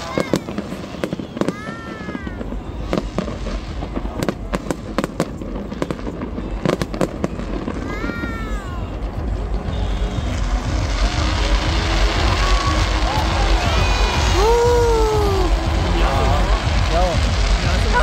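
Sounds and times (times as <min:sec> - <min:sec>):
firework whistle: 0:00.0 - 0:08.7, 0:09.6 - 0:18.0
fireworks bangs and crackles: 0:00.0 - 0:18.0.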